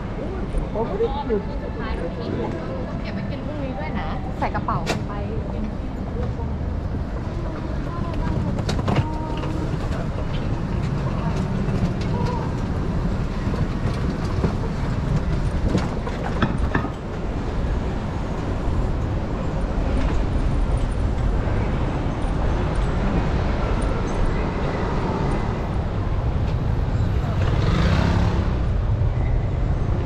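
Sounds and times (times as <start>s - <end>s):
rumble of passing vehicles: 0.0s - 30.0s.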